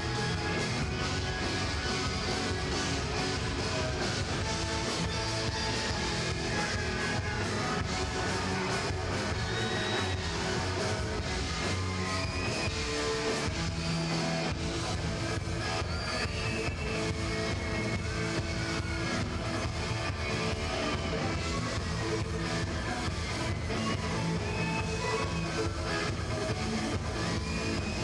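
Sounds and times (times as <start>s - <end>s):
electric guitar lead with bent notes: 0.0s - 28.0s
steel pan and rock band playing: 0.0s - 28.0s.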